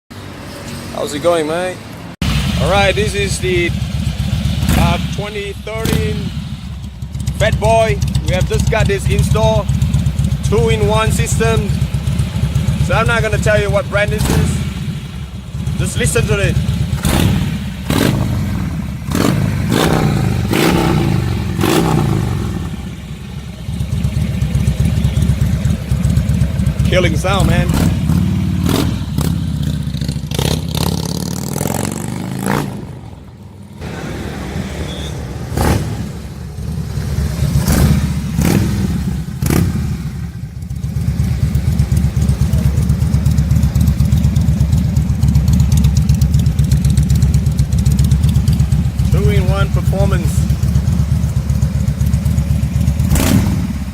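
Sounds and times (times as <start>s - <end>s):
motorcycle engine revving and idling: 0.1s - 53.9s.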